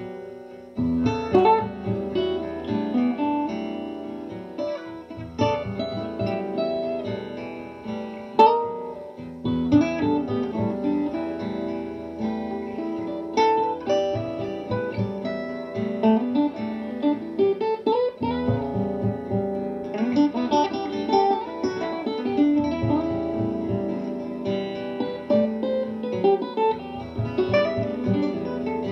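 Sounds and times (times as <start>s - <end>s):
acoustic guitar playing: 0.0s - 28.9s.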